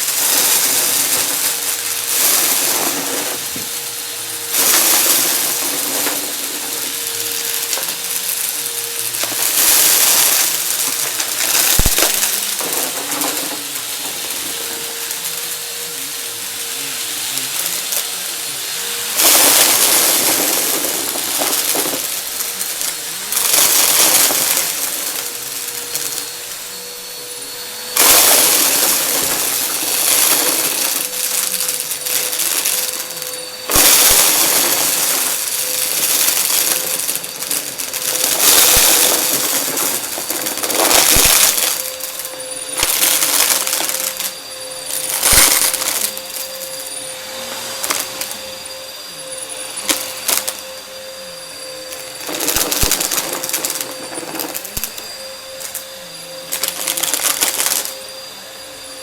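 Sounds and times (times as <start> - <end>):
confetti rattling up nozzle: 0.0 - 26.7, 27.8 - 47.0, 47.8 - 48.5, 49.7 - 50.6, 51.8 - 55.8, 56.5 - 58.0
vacuum cleaner whining: 0.0 - 59.0.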